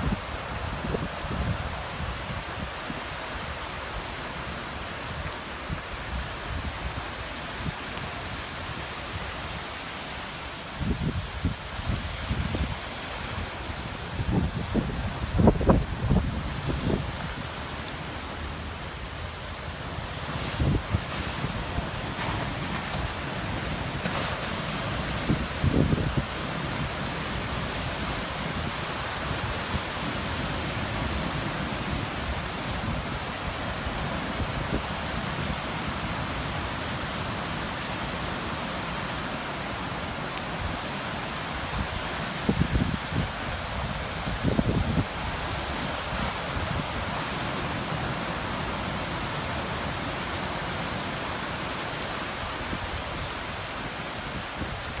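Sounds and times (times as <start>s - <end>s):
wind buffeting microphone: 0.0s - 3.7s, 10.6s - 51.2s
ocean surf washing: 0.0s - 55.0s.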